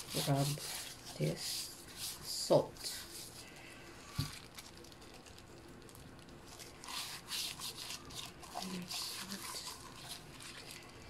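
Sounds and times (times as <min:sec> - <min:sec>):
gloved hand rubbing fish skin: 0:00.0 - 0:05.5, 0:06.4 - 0:11.0.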